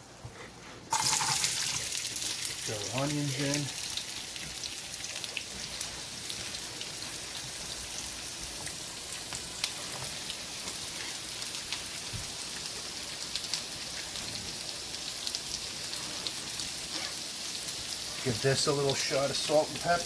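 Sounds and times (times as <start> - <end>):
oil crackling and popping: 0.9 - 20.0
onions sizzling in oil: 0.9 - 20.0.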